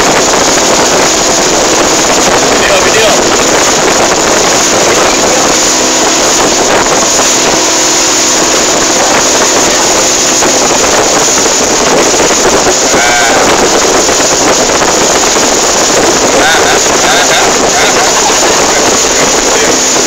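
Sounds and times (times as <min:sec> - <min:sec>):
boat engine running: 0:00.0 - 0:20.0
water rushing past hull: 0:00.0 - 0:20.0
wind buffeting microphone: 0:00.0 - 0:20.0.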